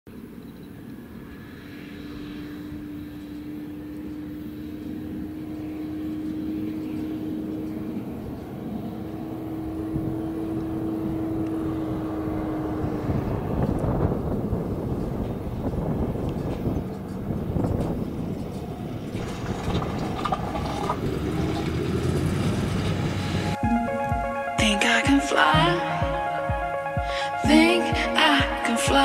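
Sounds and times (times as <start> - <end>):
steady machine whine: 0.1 - 29.0
tractor engine drone: 0.1 - 29.0.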